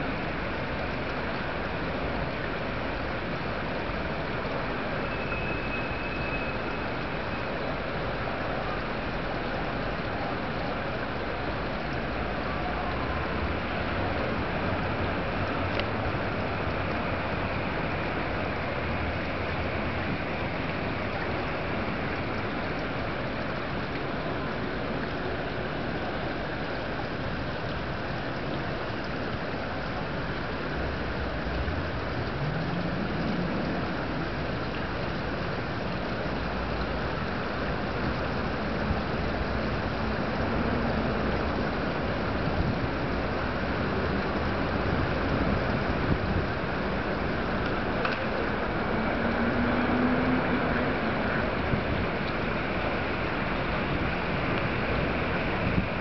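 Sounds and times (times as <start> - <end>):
outdoor background noise: 0.0 - 56.0
rushing water: 0.0 - 56.0
wind: 0.0 - 56.0.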